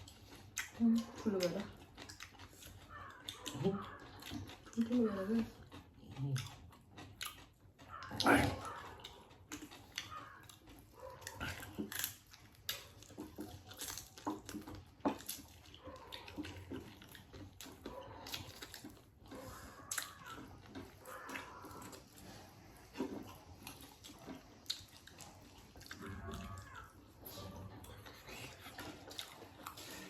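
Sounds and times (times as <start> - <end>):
chewing and biting food: 0.0 - 30.0.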